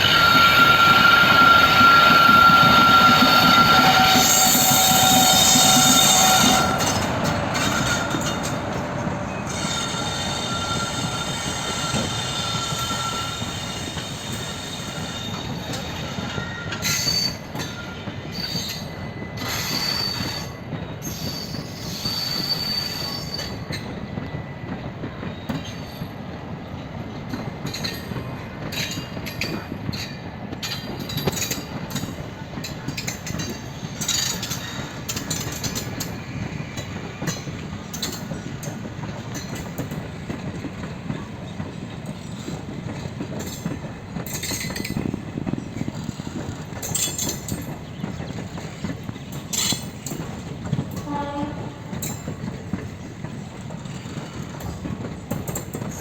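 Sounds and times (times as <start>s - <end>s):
rumble of rail noise: 0.0s - 56.0s
train wheels squealing: 0.0s - 56.0s.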